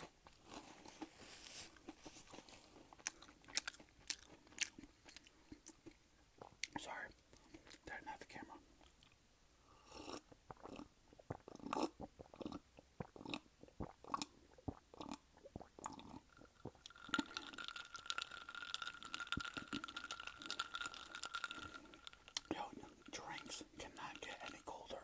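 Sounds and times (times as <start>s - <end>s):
person chewing crunchy food: 0.0s - 6.8s, 9.8s - 24.6s.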